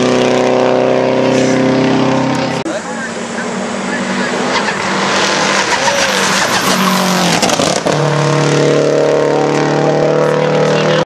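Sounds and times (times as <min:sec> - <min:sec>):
race car passing at speed: 0:00.0 - 0:11.0.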